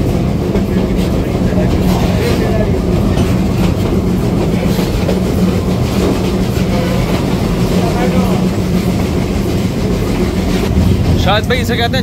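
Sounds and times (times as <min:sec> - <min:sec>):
low hum: 0:00.0 - 0:12.0
train wheels rumbling on rails: 0:00.0 - 0:12.0.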